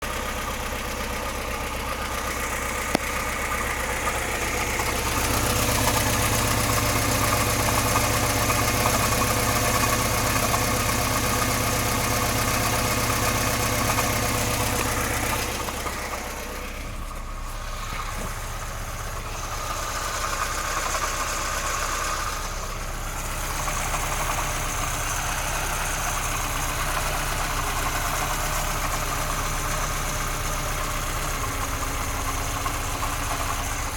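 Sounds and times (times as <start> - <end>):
petrol engine knocking: 0.0 - 33.9.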